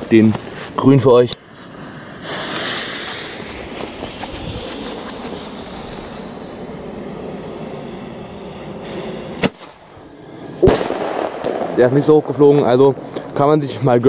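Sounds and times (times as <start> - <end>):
smoke bomb tube hissing: 0.4 - 11.8
sharp firework crack: 1.7 - 13.4.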